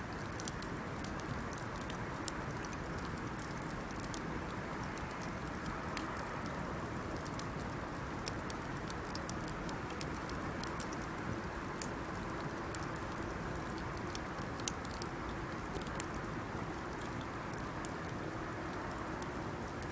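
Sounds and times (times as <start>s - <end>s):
bonfire flames rushing: 0.0s - 19.9s
wood crackling and popping: 0.0s - 19.9s.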